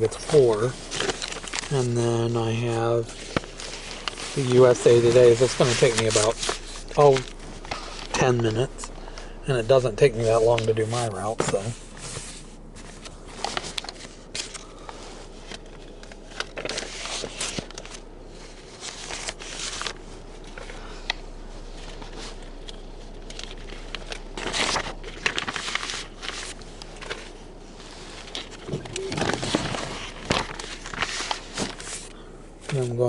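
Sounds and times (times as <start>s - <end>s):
newspaper pages rustling: 0.0s - 33.0s.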